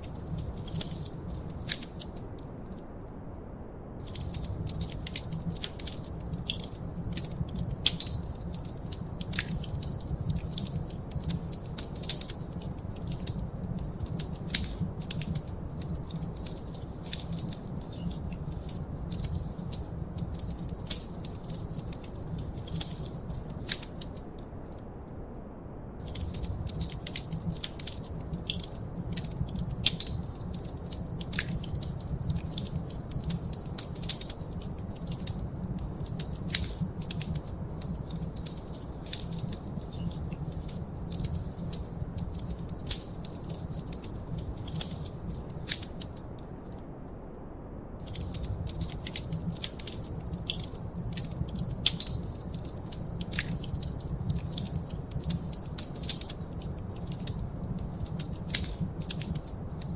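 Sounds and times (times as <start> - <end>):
wood fire crackling: 0.0 - 3.0, 4.0 - 24.8, 26.0 - 47.0, 48.0 - 59.9.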